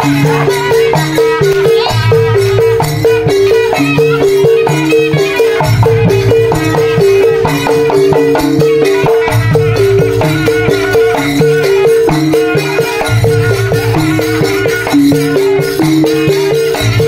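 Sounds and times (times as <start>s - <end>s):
barrel drum: 0.0s - 17.0s
large hanging gongs: 0.0s - 17.0s
shawm melody: 0.0s - 17.0s
small hand-held gongs: 0.0s - 17.0s.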